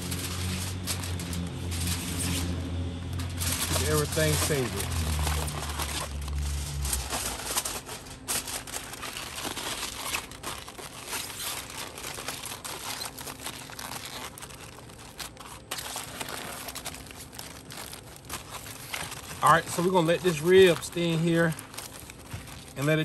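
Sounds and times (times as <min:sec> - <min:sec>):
aluminum foil crinkling: 0:00.0 - 0:23.0.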